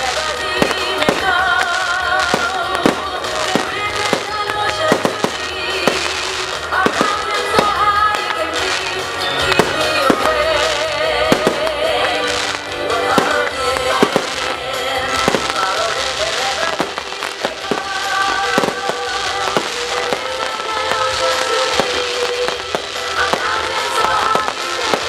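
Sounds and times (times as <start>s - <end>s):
fireworks bangs: 0.0s - 25.0s
music with sustained tones: 0.0s - 25.0s.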